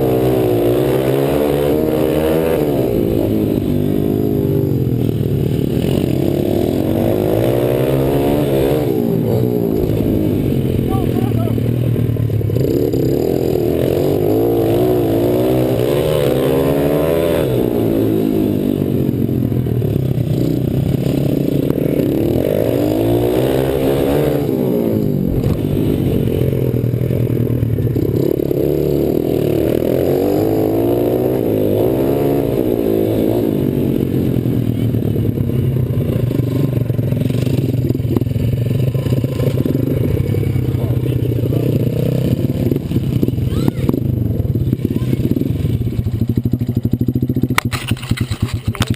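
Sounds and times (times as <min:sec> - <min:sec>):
pit bike engine revving: 0:00.0 - 0:48.9.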